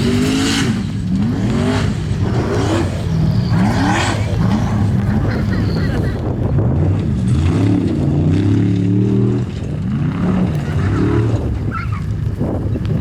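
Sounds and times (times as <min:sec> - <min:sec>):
car engine revving hard: 0:00.0 - 0:12.3.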